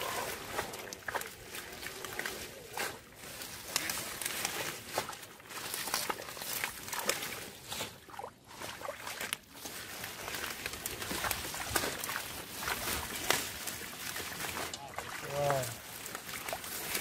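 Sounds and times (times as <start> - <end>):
hands squelching in wet mud: 0.0 - 17.0
leaves rustling: 0.0 - 17.0
water splashing: 0.0 - 17.0.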